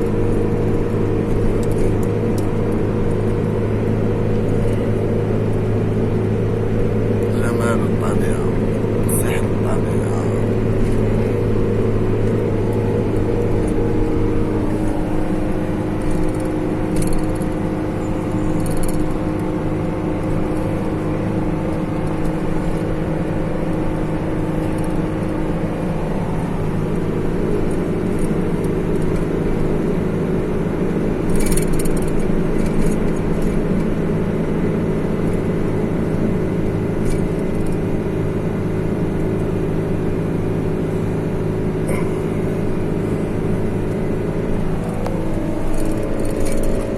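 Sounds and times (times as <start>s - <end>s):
car engine hum: 0.0s - 46.9s
tyre and road noise: 0.0s - 46.9s.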